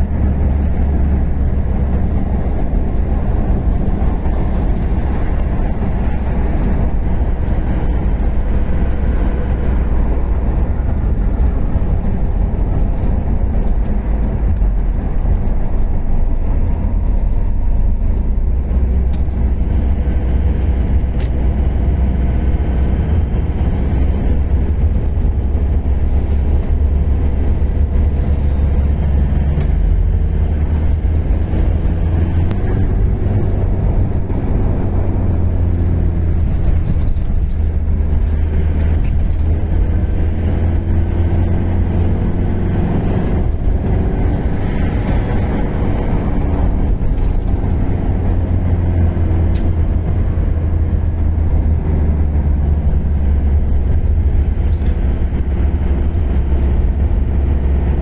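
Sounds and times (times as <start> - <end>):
road noise: 0.0 - 58.0
truck diesel engine running: 0.0 - 58.0.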